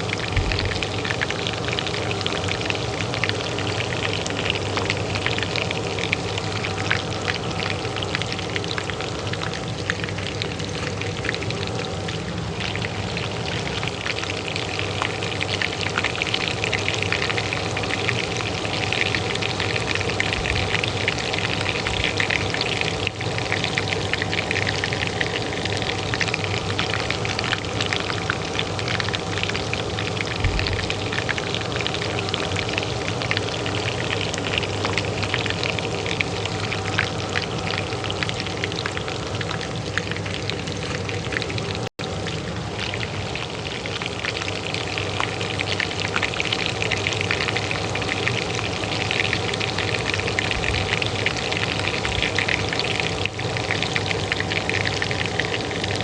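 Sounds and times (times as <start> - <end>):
hot oil frying in a pan: 0.0 - 56.0
range hood fan humming: 0.0 - 56.0.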